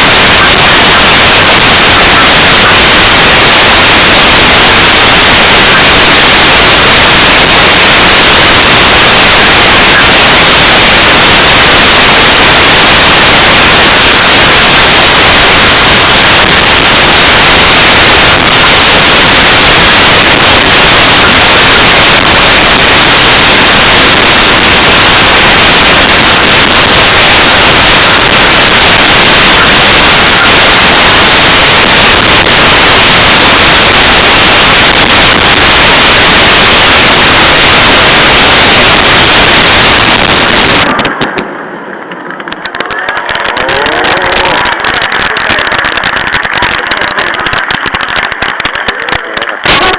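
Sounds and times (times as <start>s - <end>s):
clipped fireworks hissing noise: 0.0s - 41.5s, 42.7s - 49.9s.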